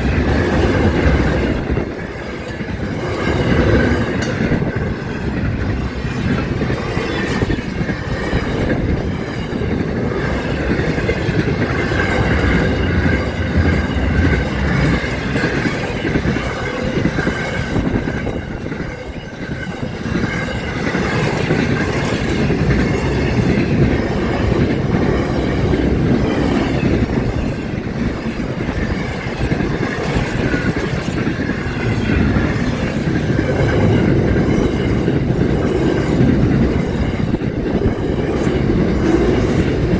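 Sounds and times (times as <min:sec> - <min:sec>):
train running on track: 0:00.0 - 0:39.9.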